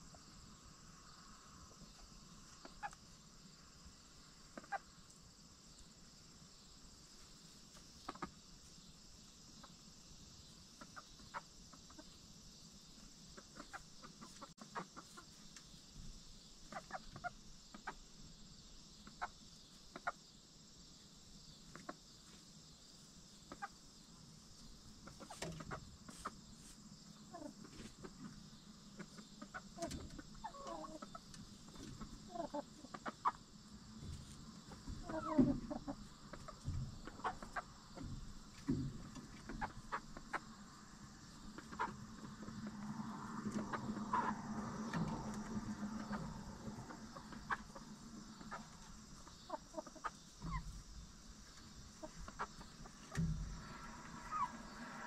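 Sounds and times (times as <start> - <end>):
hens clucking softly: 0.0 - 15.9, 16.6 - 18.2, 18.9 - 20.3, 21.6 - 55.0
faint steady hiss: 0.0 - 55.0.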